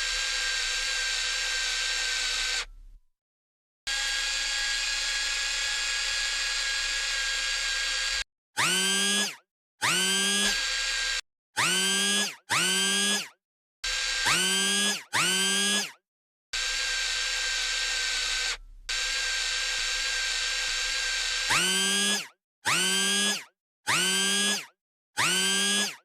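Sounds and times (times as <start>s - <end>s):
toy electric motor whirring: 0.0s - 2.7s, 3.9s - 16.0s, 16.6s - 26.0s.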